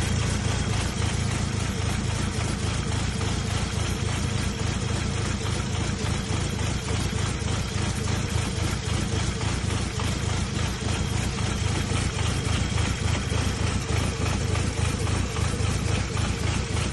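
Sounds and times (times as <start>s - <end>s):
car engine idling with misfire: 0.0s - 16.9s.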